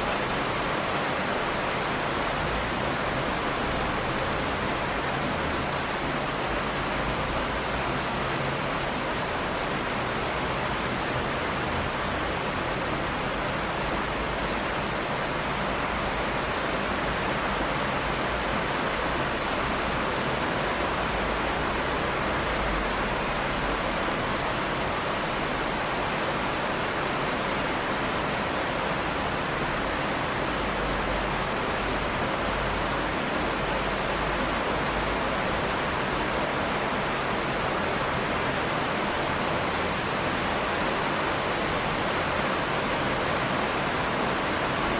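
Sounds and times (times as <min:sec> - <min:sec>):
dense rain falling: 0:00.0 - 0:44.9.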